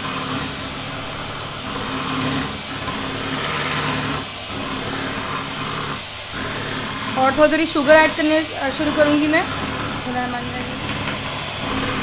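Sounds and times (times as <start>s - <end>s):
electric hand mixer whipping cream: 0.0s - 12.0s.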